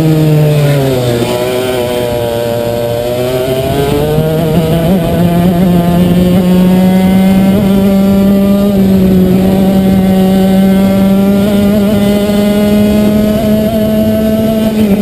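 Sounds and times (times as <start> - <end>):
kart engine at high revs: 0.0 - 15.0.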